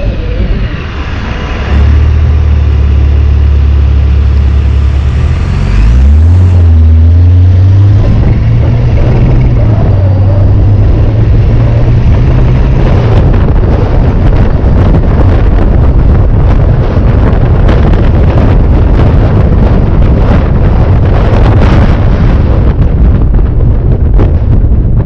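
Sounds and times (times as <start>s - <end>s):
car engine driving: 0.0s - 25.0s
road noise: 0.0s - 25.0s
wind buffeting microphone: 0.0s - 25.0s.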